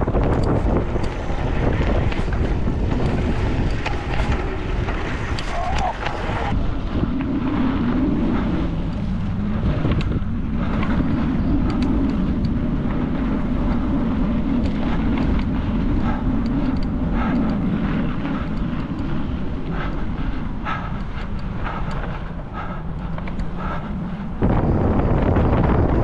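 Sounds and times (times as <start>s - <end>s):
sharp ticks: 0.0s - 6.2s, 8.8s - 24.8s
motocross engines droning: 0.0s - 26.0s.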